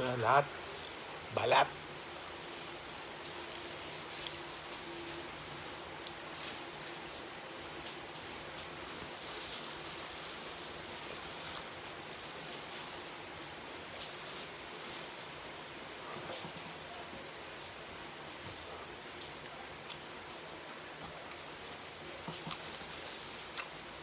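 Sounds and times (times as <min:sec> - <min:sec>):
steady hiss: 0:00.0 - 0:24.0
chewing crispy food: 0:00.1 - 0:17.9, 0:18.5 - 0:24.0.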